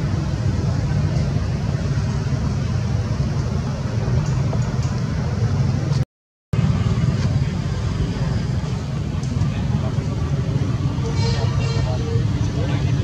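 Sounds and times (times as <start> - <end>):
low outdoor rumble: 0.0 - 6.0, 6.6 - 13.0.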